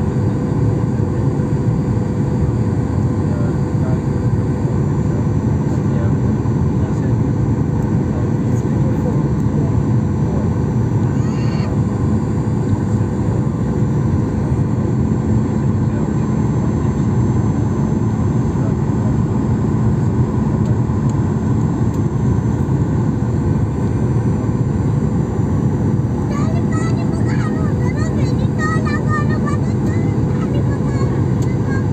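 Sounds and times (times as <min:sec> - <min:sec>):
airliner engine and airflow noise: 0:00.0 - 0:31.9
steady low hum: 0:00.0 - 0:31.9.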